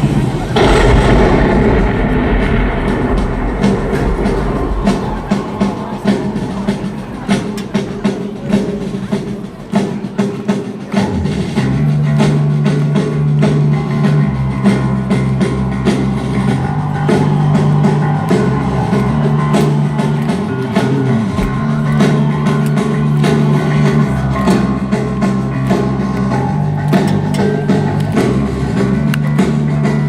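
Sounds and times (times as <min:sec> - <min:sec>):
heavy bass line: 0:00.0 - 0:10.1, 0:11.0 - 0:30.0
drum kit beating: 0:00.0 - 0:30.0.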